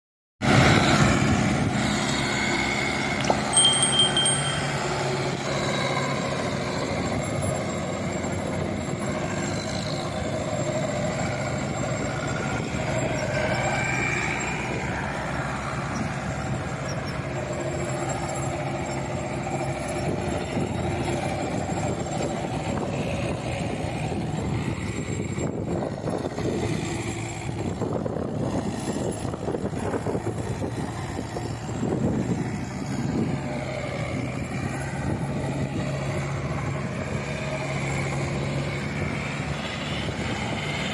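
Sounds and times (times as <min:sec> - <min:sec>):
tractor diesel engine under load: 0:00.4 - 0:40.9.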